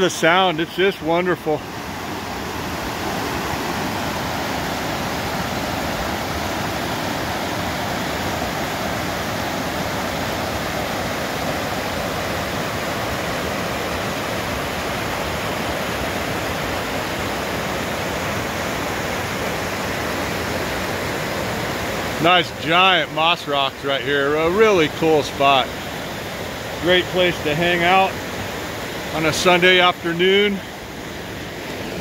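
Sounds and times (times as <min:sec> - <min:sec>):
river water rushing over rocks: 0:00.0 - 0:32.0.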